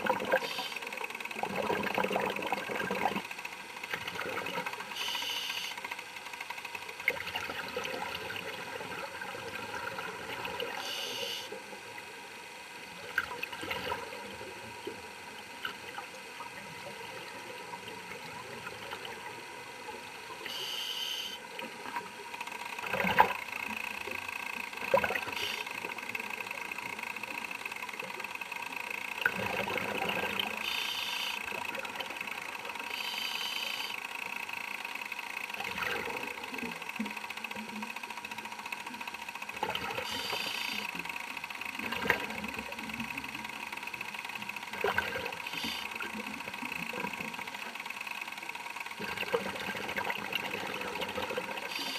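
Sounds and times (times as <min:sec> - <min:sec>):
steady high whine: 0:00.0 - 0:13.2, 0:14.2 - 0:29.3, 0:29.9 - 0:49.0, 0:50.8 - 0:51.9.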